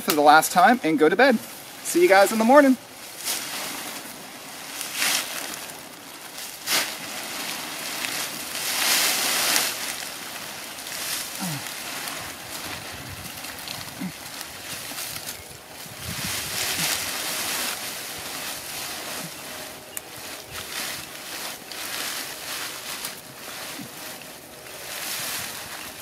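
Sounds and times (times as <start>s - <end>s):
dry leaves rustling and crunching: 0.0s - 26.0s.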